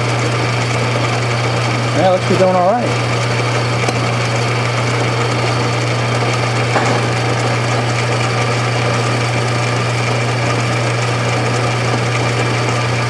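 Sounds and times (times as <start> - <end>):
lathe motor humming: 0.0 - 13.0.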